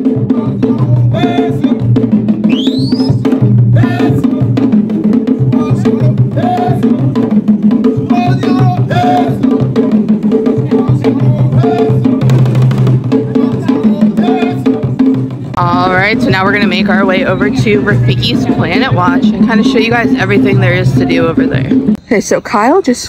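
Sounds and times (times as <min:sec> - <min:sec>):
hand drums playing: 0:00.0 - 0:22.0.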